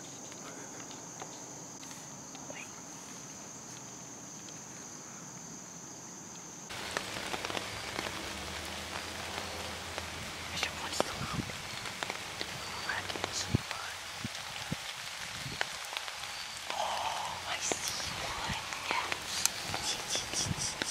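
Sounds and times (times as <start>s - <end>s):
rain pattering on leaves: 0.0s - 4.8s, 6.7s - 20.9s
insects trilling: 0.0s - 20.9s.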